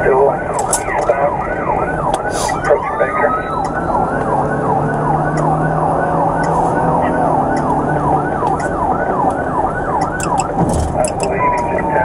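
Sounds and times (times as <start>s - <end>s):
car engine and road noise: 0.0s - 12.0s
police siren yelping: 0.0s - 12.0s.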